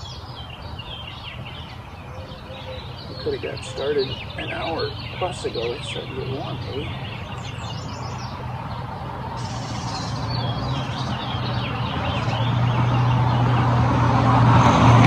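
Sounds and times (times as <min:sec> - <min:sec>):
birds chirping faintly: 0:00.0 - 0:13.8
vehicle engine humming: 0:00.0 - 0:15.0.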